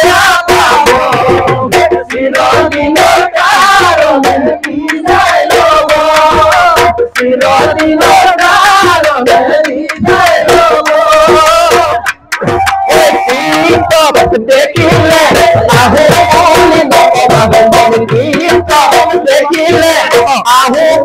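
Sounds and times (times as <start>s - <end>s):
loud fast drumming: 0.0s - 21.0s
men singing together: 0.0s - 21.0s.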